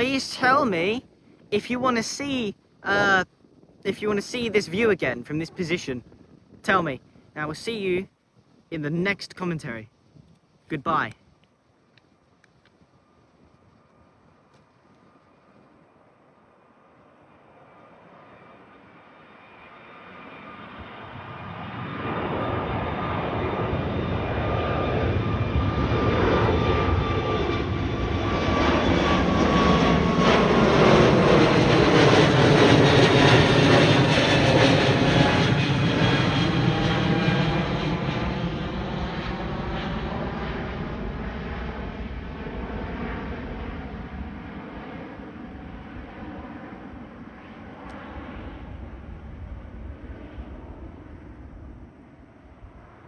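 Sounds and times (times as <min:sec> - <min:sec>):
jet airliner engine roar: 0:00.0 - 0:08.1, 0:12.7 - 0:53.0
jet engine whine: 0:00.0 - 0:53.0.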